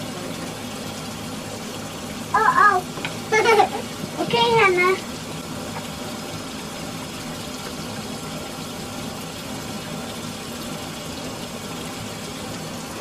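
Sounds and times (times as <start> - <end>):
water running from sink tap: 0.0 - 13.0.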